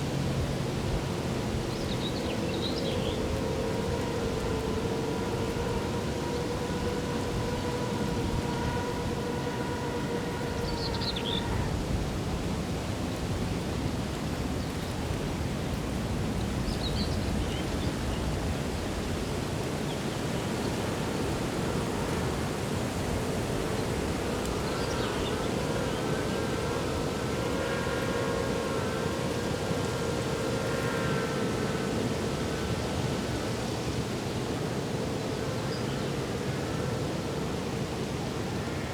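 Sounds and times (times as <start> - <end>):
steady droning tone: 0.0 - 13.4, 20.1 - 38.9
rushing outdoor background noise: 0.0 - 38.9.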